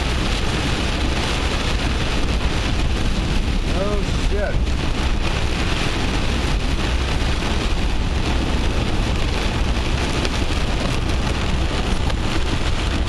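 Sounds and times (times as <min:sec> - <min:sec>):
heavy rain on a car: 0:00.0 - 0:13.0
low road rumble: 0:00.0 - 0:13.0.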